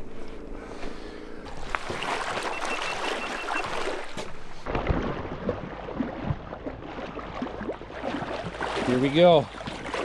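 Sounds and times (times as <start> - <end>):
water splashing around legs: 1.5 - 10.0.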